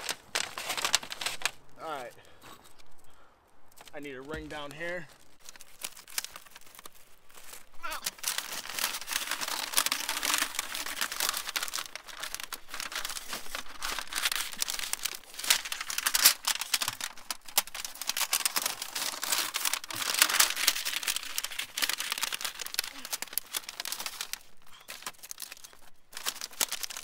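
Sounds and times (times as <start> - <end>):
thin steel sheet crinkling: 0.0 - 27.0.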